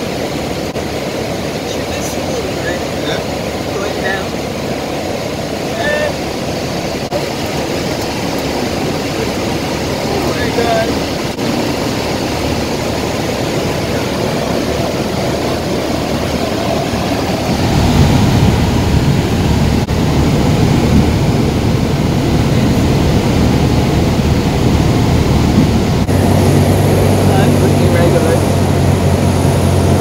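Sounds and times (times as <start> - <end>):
propeller plane engine: 0.0 - 30.0.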